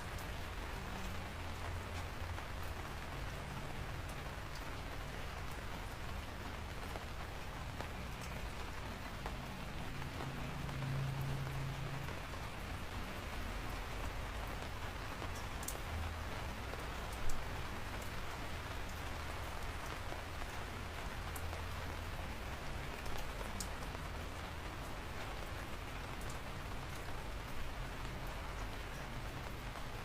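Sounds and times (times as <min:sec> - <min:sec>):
steady rain falling: 0:00.0 - 0:30.0
ticks of raindrops: 0:00.0 - 0:30.0.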